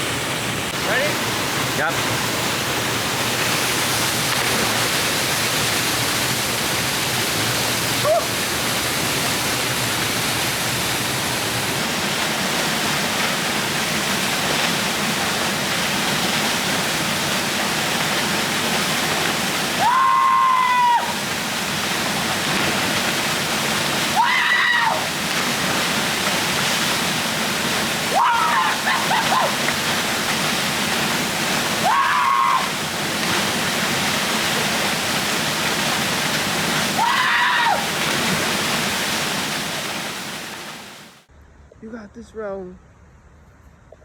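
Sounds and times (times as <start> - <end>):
waterfall rushing: 0.0 - 41.3.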